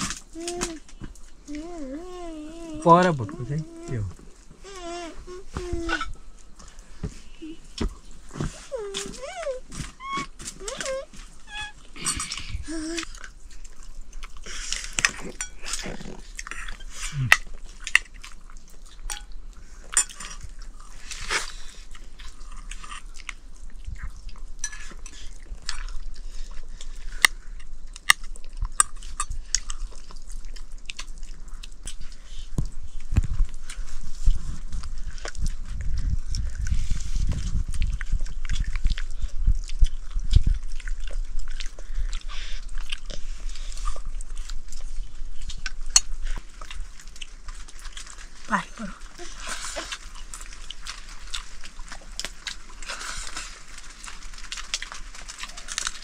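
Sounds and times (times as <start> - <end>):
people chewing and biting: 0.0 - 56.0.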